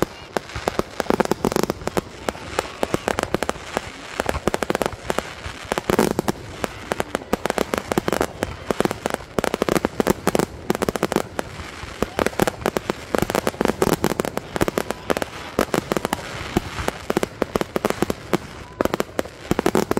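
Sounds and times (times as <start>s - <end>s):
fireworks bangs and crackling: 0.0s - 19.9s.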